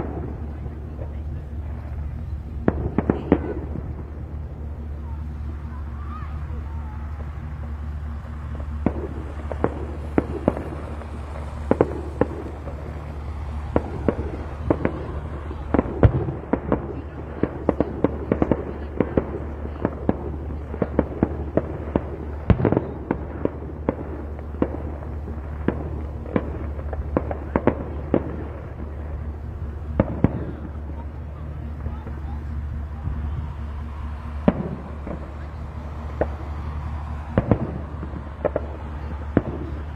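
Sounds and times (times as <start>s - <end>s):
fireworks bangs and pops: 0.0s - 39.9s
steady low hum: 0.0s - 39.9s.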